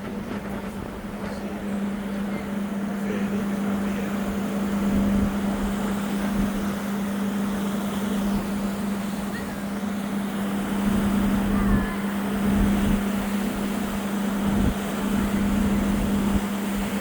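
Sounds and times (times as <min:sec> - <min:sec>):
boat engine droning: 0:00.0 - 0:17.0
wind on microphone: 0:00.0 - 0:17.0.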